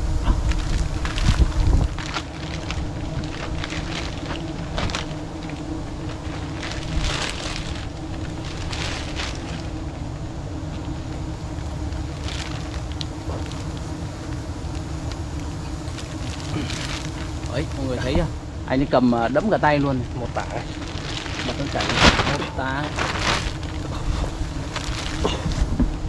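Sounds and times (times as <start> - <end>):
bee swarm humming: 0.0 - 26.0
scattered crackles: 0.0 - 26.0.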